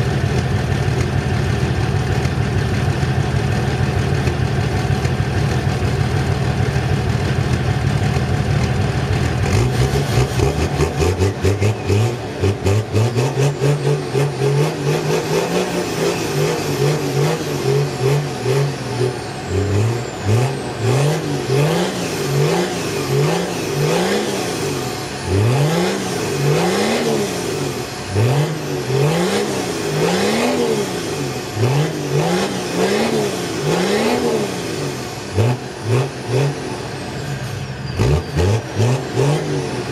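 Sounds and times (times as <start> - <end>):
diesel car engine idling and revving: 0.0 - 39.9.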